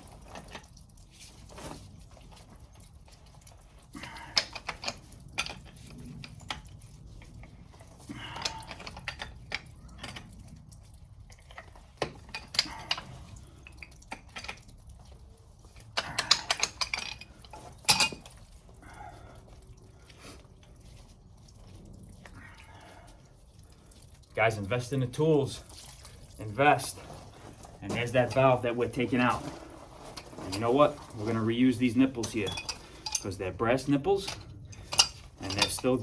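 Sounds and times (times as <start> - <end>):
metal wrenches clinking on valve: 2.0 - 18.8, 24.0 - 36.0.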